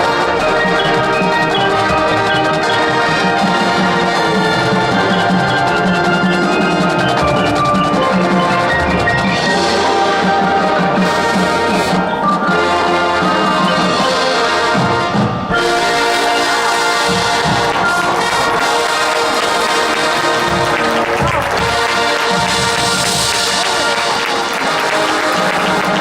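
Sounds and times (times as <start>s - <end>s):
brass chords: 0.0s - 26.0s
drums and percussion: 0.0s - 26.0s.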